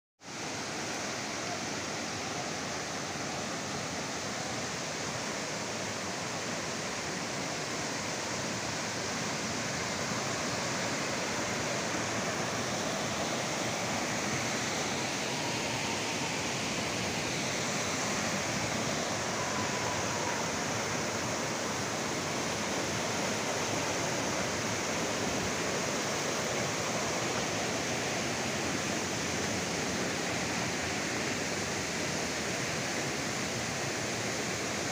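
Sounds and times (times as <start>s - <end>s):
waterfall and stream rushing: 0.2s - 34.9s.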